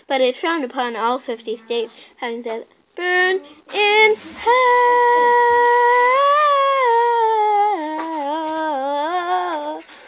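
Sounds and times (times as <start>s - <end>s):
girl singing unaccompanied: 0.0s - 10.0s.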